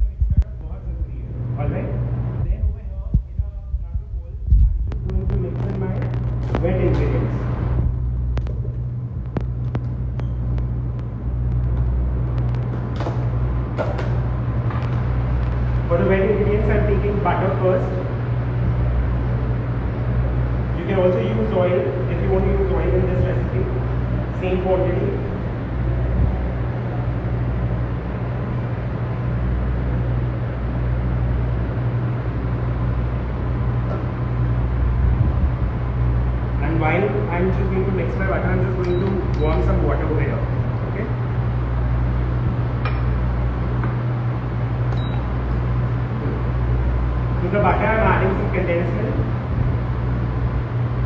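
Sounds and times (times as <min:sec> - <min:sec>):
machinery droning hum: 0:00.0 - 0:51.0
ventilation fans running: 0:00.0 - 0:51.0.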